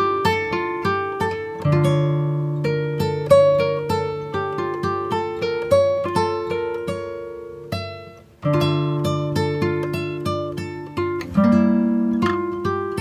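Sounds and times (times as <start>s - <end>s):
plucked acoustic guitar: 0.0s - 13.0s.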